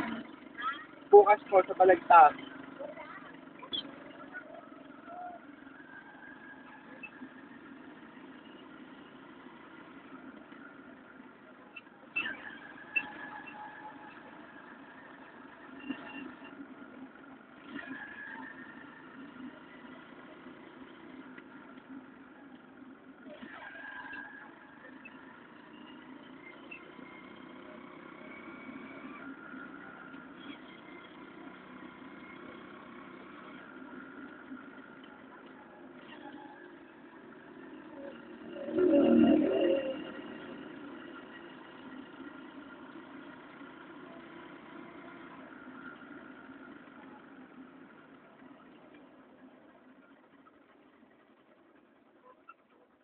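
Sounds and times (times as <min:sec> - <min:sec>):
vehicle engine and road hum: 0:00.0 - 0:53.0.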